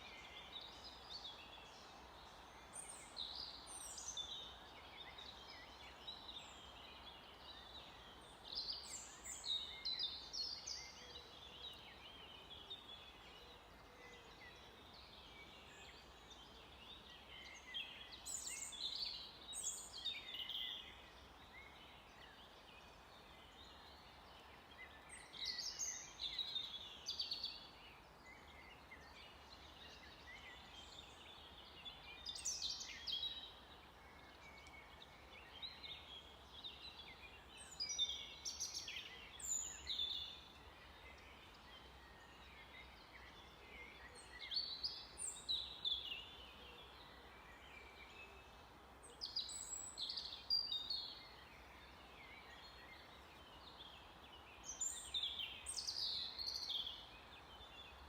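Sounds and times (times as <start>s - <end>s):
faint background hiss: 0.0s - 58.0s
songbird chattering song: 0.0s - 58.0s.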